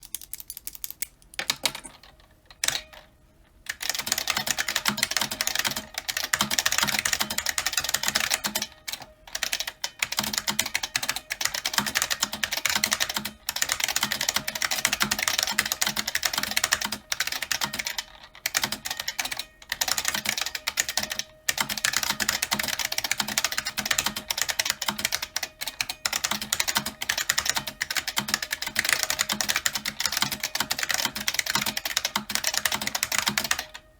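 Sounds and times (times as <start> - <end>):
buckling-spring keyboard typing: 0.0 - 3.0, 3.7 - 33.8.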